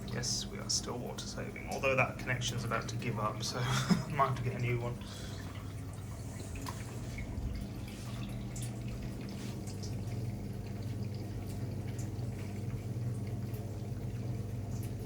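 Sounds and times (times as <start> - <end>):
pump motor humming: 0.0 - 15.0
water splashing and dripping: 1.1 - 15.0.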